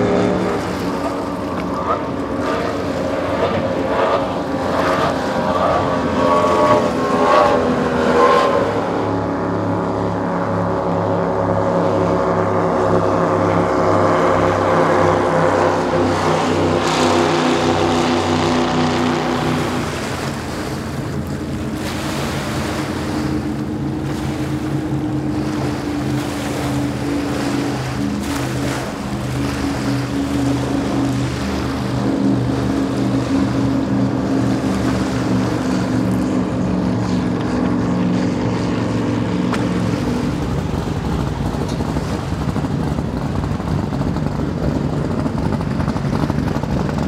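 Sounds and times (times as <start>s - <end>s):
outboard motors boat passing: 0.0s - 47.0s
powerboat engines passing: 0.0s - 47.0s.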